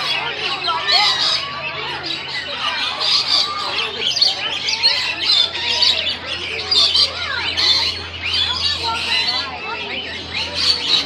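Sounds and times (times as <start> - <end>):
parrots chirping and squawking: 0.0 - 11.0.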